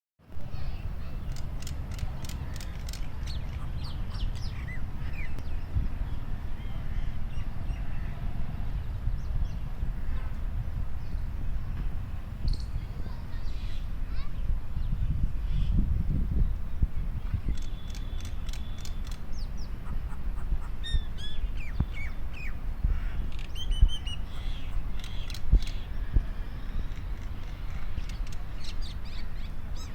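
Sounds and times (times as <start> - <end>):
birds chirping: 0.6 - 29.9.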